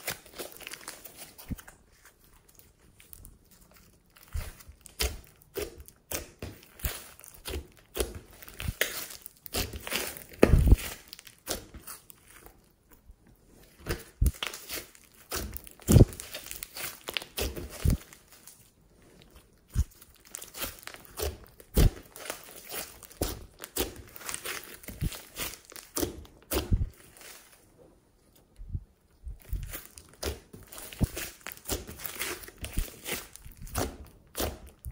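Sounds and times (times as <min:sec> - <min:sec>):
hands squishing thick slime: 0:00.0 - 0:28.6, 0:29.2 - 0:34.9.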